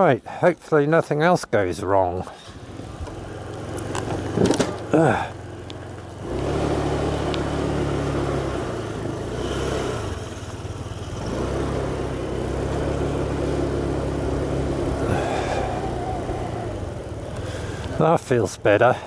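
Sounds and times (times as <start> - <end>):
road and wind noise: 0.0 - 19.0
motorcycle engine running: 2.3 - 19.0.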